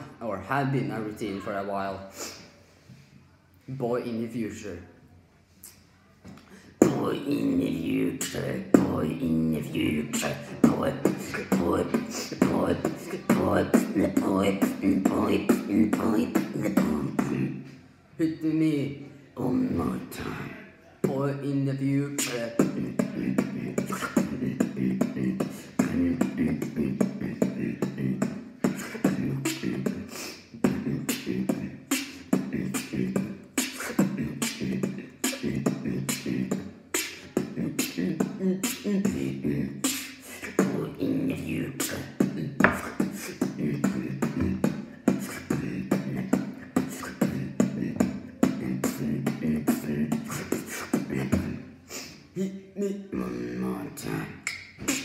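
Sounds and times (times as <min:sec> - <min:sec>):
held vocal tone: 0:00.0 - 0:02.6, 0:06.4 - 0:55.0
beatboxing: 0:05.6 - 0:55.0.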